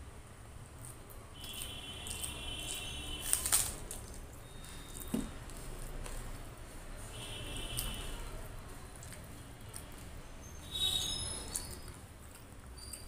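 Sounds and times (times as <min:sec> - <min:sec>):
fingers squishing rice and curry: 0:00.3 - 0:13.0.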